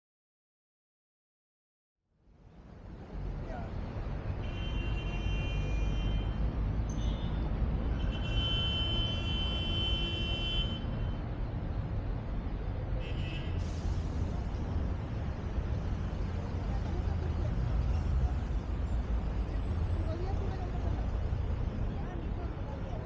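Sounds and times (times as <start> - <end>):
road traffic passing: 2.2 - 23.0.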